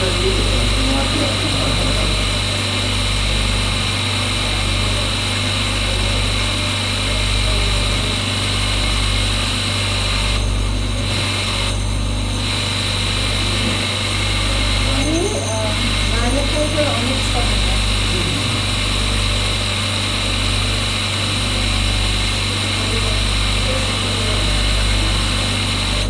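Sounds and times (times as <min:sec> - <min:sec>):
grinding wheel motor whining: 0:00.0 - 0:26.0.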